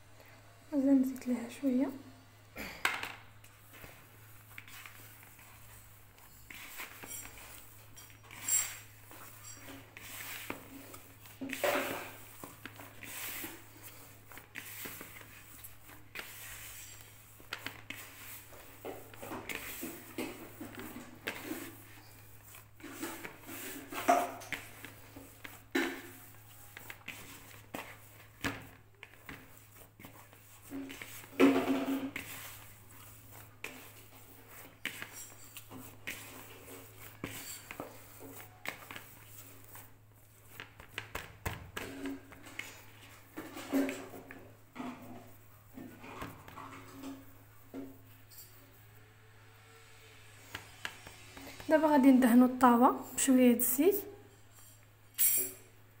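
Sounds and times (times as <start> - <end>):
hands kneading dough: 3.3 - 48.8, 50.2 - 54.9.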